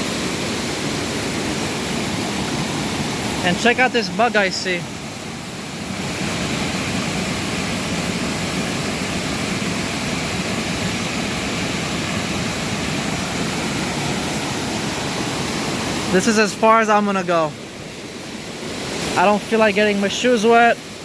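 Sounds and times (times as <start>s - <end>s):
water rushing down a waterfall: 0.0s - 21.0s.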